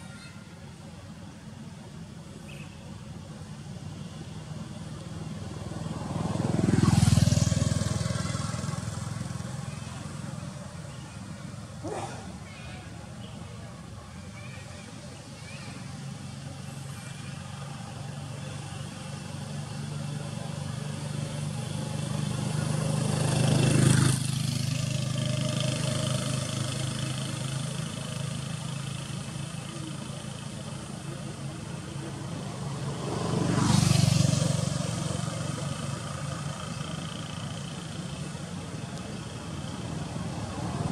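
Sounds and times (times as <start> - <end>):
vehicles passing by: 0.0 - 40.9.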